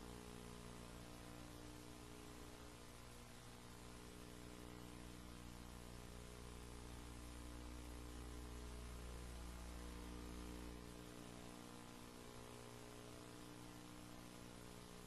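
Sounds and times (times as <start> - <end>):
faint electrical hum with hiss: 0.0 - 15.0.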